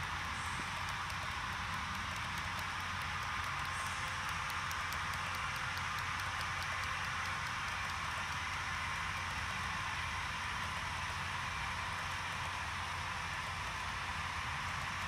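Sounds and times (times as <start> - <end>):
wheels clicking: 0.0 - 15.0.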